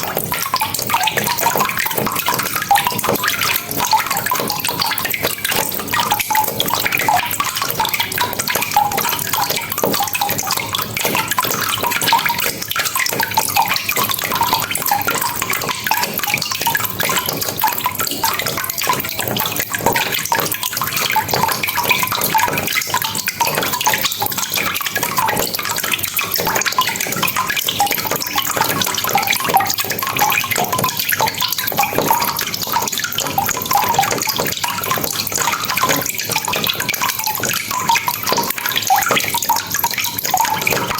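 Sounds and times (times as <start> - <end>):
water drips and splashes: 0.0 - 40.9.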